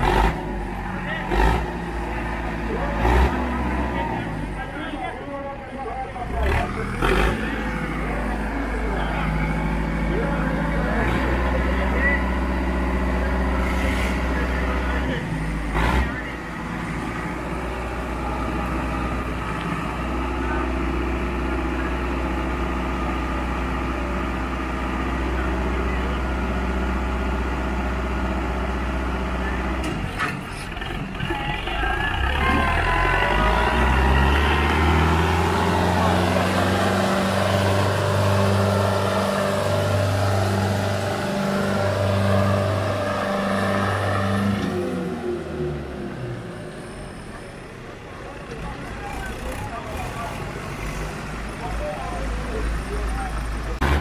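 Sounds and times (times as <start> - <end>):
diesel tractor engines under load: 0.0 - 54.0.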